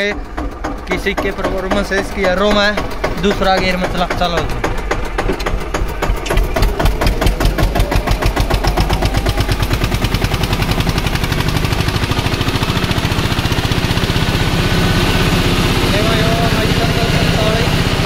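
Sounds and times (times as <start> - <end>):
tractor diesel engine chugging: 0.0 - 18.0.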